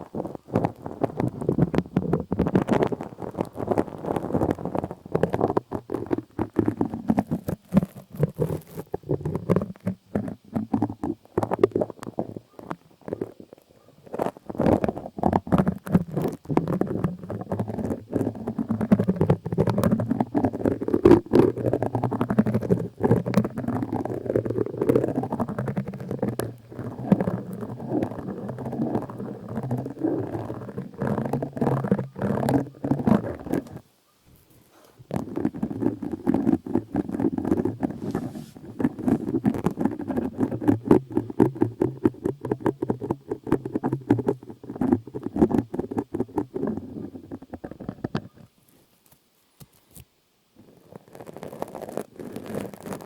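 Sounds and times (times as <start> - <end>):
scratching and rubbing on microphone: 0.0 - 53.0.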